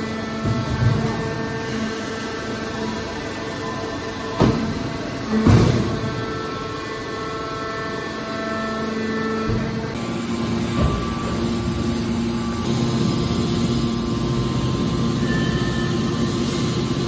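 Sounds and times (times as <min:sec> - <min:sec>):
hydraulic baler hum and whine: 0:00.0 - 0:17.0.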